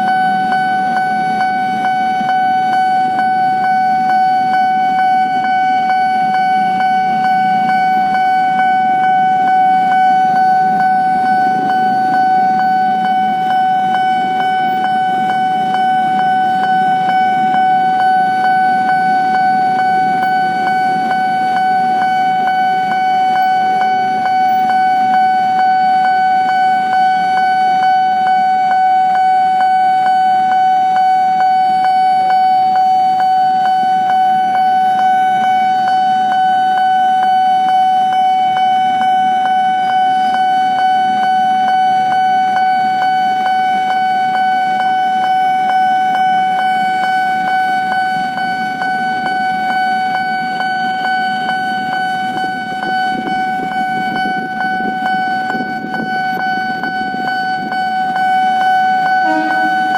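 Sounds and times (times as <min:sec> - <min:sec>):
level crossing alarm: 0:00.0 - 0:59.9
low traffic rumble: 0:00.0 - 0:59.9.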